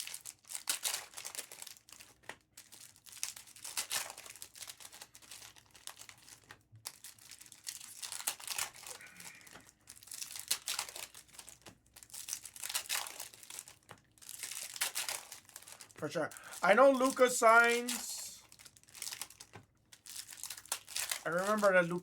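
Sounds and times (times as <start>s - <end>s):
wrappers crinkling and tearing: 0.0s - 22.0s.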